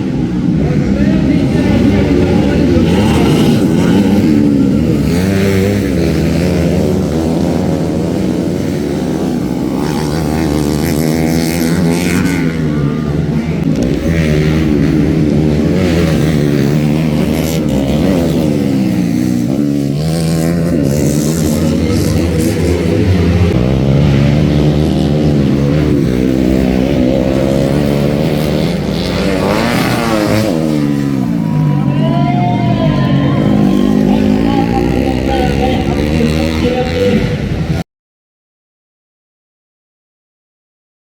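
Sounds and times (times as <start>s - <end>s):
dirt bike engines revving: 0.0s - 37.8s.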